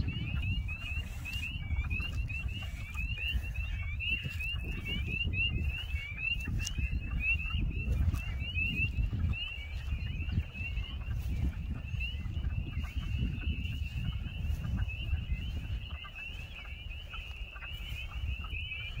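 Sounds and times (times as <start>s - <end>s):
spring peepers chorus: 0.0s - 19.0s
wind rumbling on microphone: 0.0s - 19.0s.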